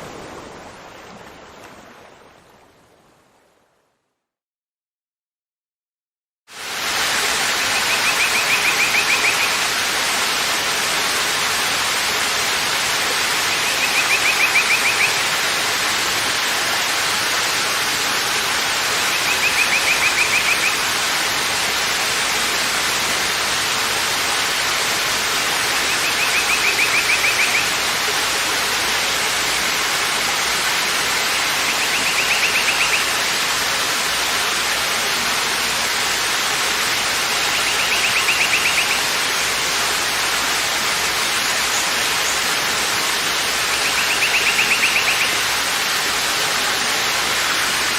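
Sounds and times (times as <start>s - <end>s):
waterfall rushing: 6.5s - 47.9s.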